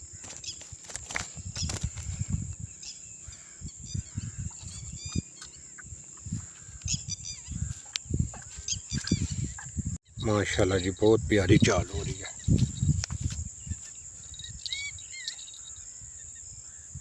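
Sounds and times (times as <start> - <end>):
high insect drone: 0.0 - 17.0
short chirping bird calls: 1.4 - 10.3, 11.9 - 16.9.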